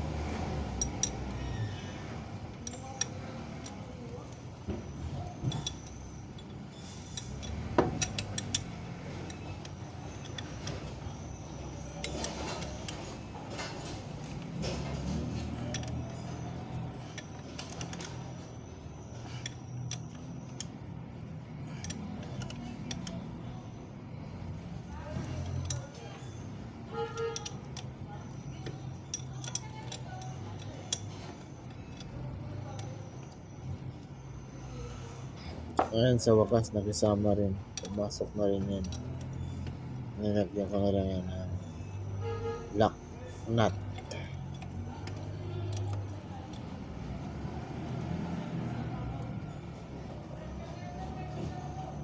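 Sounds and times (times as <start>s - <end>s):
metal parts clinking and knocking: 0.6s - 48.1s.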